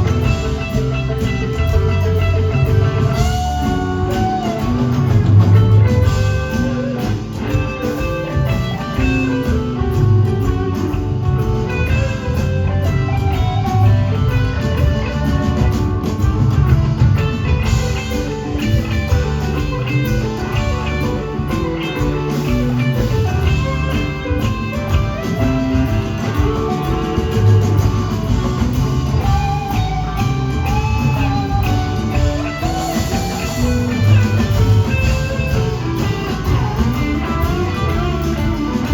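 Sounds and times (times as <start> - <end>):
bass guitar: 0.0 - 38.9
drum kit: 0.0 - 38.9
electric guitar lead lines: 0.0 - 38.9.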